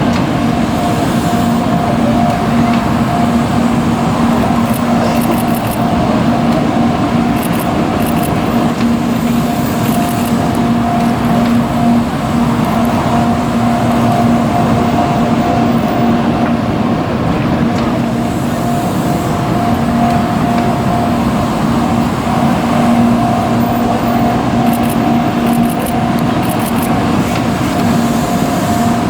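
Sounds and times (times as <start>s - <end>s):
two-tone level crossing alarm: 0.0s - 16.7s, 17.7s - 29.0s
train rushing past: 0.0s - 29.0s.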